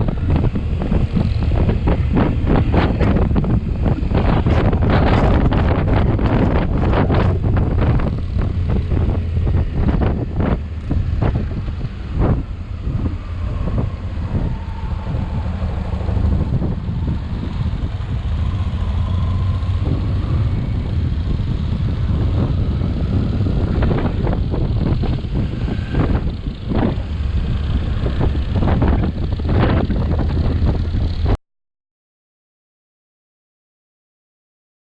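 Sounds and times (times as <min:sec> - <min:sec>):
motorcycle engine drone: 0:00.0 - 0:31.4
wind buffeting microphone: 0:00.0 - 0:31.4.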